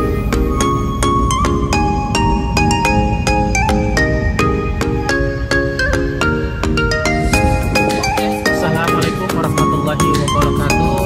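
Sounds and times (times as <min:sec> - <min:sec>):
short pitched chords: 0:00.0 - 0:11.0
steady low bass: 0:00.0 - 0:11.0.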